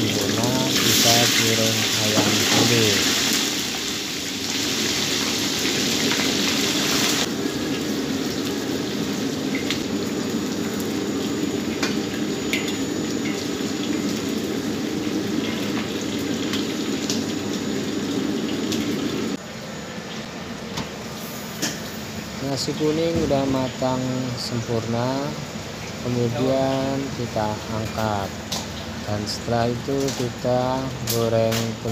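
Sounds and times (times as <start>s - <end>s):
chicken deep-frying in oil: 0.0s - 31.9s.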